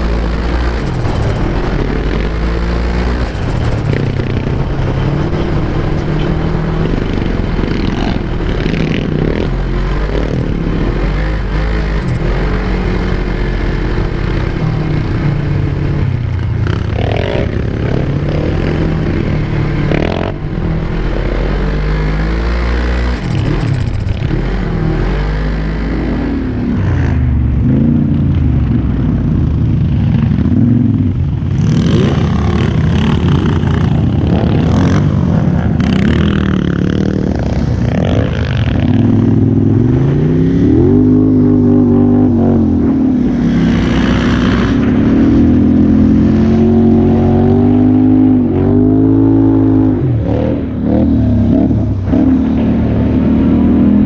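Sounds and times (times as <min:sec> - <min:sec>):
off-road bike engine revving: 0:00.0 - 0:54.0.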